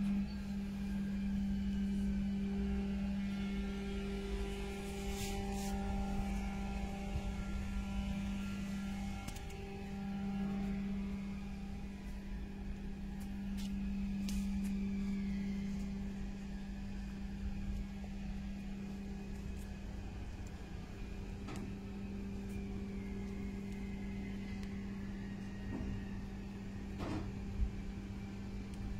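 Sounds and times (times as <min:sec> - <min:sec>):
steady machine hum: 0:00.0 - 0:28.9.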